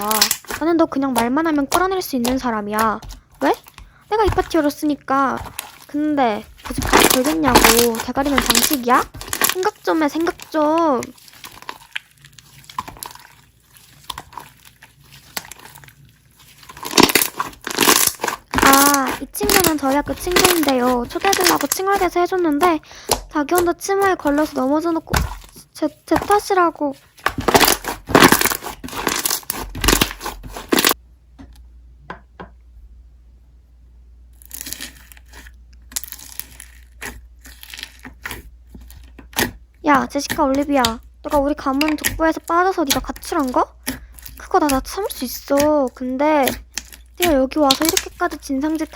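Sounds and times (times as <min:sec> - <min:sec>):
slime squished by hand: 0:00.0 - 0:31.0, 0:34.4 - 0:48.9.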